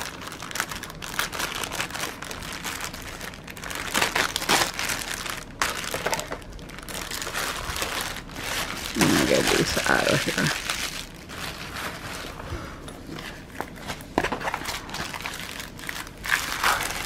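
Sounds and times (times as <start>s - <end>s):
plastic bag crinkling: 0.0s - 12.4s, 13.2s - 17.0s.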